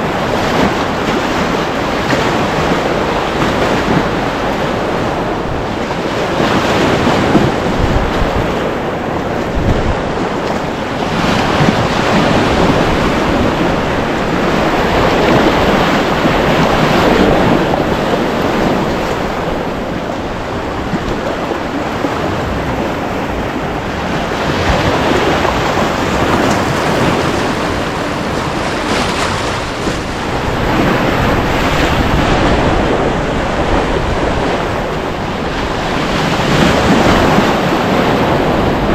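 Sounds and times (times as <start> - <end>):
river whitewater rushing: 0.0 - 38.9
wind noise on microphone: 0.0 - 38.9.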